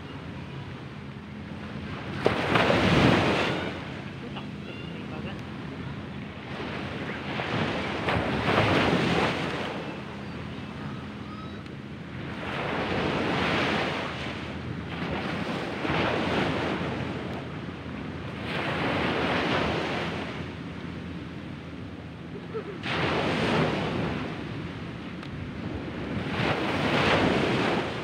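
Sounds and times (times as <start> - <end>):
small waves breaking on beach: 0.0 - 21.2, 21.9 - 28.0.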